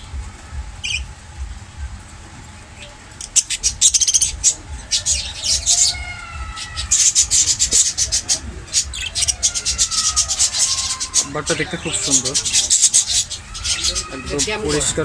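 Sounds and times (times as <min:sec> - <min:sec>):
small parrots chattering: 0:00.8 - 0:01.1, 0:02.7 - 0:15.0.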